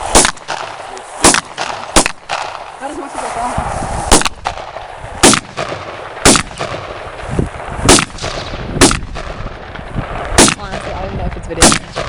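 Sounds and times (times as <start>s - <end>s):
gunshots: 0.0s - 3.0s, 4.1s - 12.0s.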